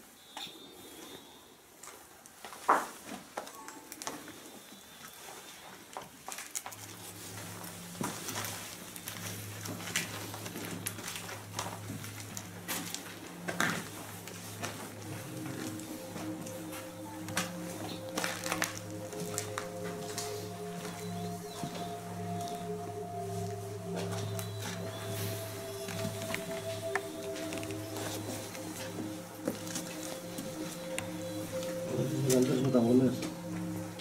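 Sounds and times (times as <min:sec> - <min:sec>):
low droning background music: 0:06.7 - 0:34.0.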